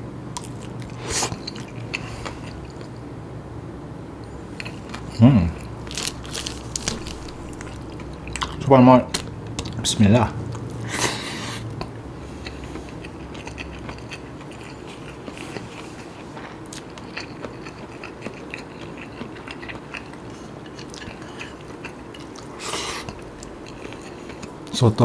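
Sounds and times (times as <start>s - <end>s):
person chewing food: 0.4s - 3.0s, 4.2s - 9.8s, 10.5s - 24.8s.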